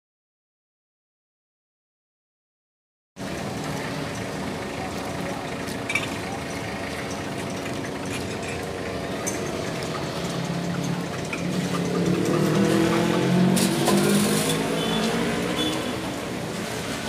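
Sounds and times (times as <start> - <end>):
street noise hum: 3.2 - 17.0
vehicle engine running: 3.2 - 17.0.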